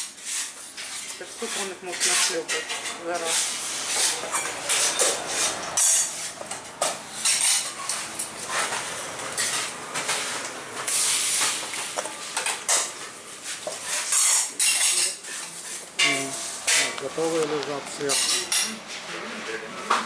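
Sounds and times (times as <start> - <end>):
metal pans and lids clattering: 0.0 - 18.9.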